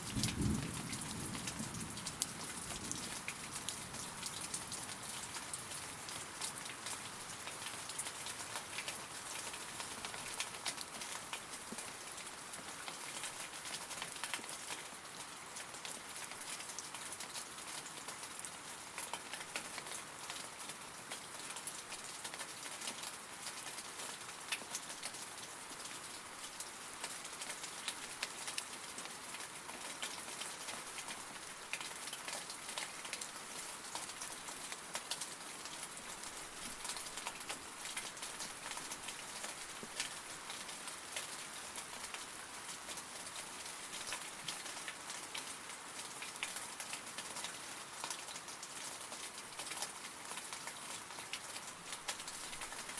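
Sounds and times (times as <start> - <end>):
steady rain with pattering drops: 0.0 - 52.9.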